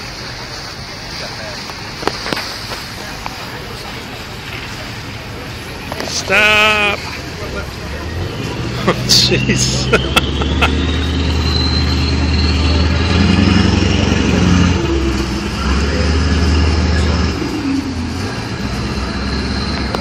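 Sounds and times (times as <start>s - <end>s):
boat diesel engine droning: 0.0s - 20.0s
water: 0.0s - 20.0s
wind: 0.0s - 20.0s.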